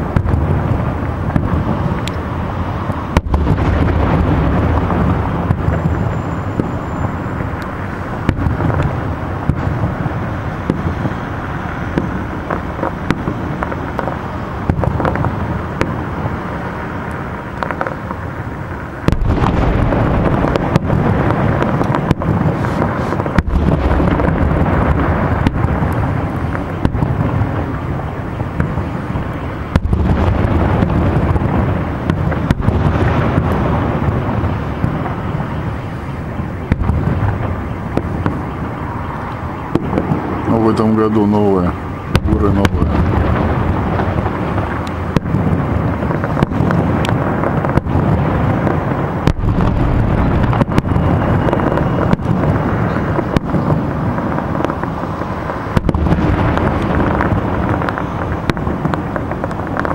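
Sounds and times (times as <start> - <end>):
firework shells bursting: 0.0 - 40.6, 41.9 - 59.9
continuous rumble: 0.0 - 59.9.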